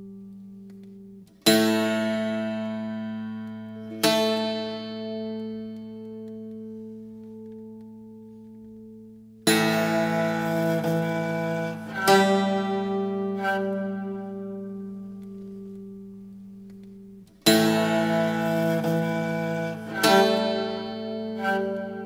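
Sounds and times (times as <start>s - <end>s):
strummed string chords: 0.0s - 22.0s.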